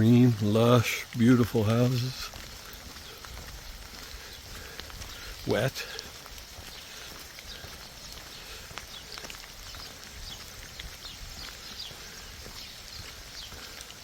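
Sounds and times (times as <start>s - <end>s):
light rain: 0.0s - 14.0s
raindrop ticks: 0.0s - 14.0s.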